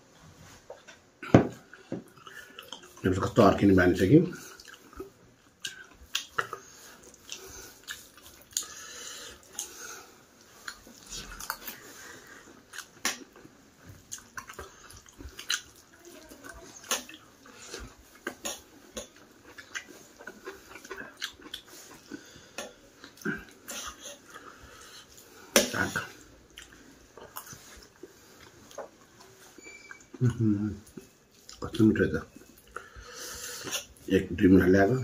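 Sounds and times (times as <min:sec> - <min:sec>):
chewing: 0:00.6 - 0:03.2, 0:04.2 - 0:34.1.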